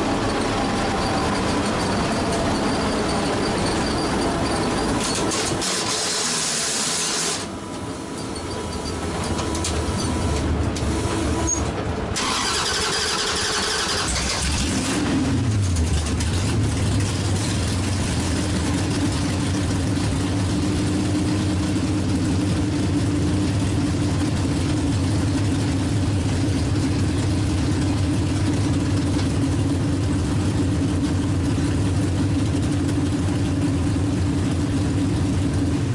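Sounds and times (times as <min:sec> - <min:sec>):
race car engine: 0:00.0 - 0:35.9.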